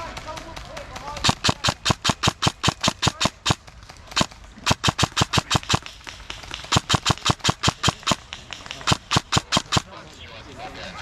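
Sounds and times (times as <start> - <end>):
airsoft gun rapid fire: 0.0 - 10.0.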